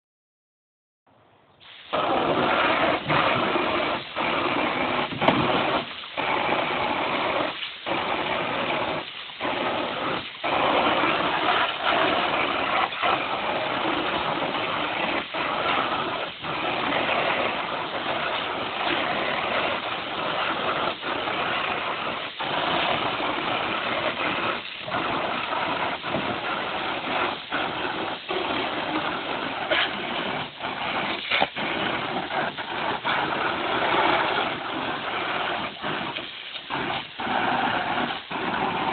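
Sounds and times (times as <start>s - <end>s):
hose water spraying on plastic: 1.6s - 38.9s.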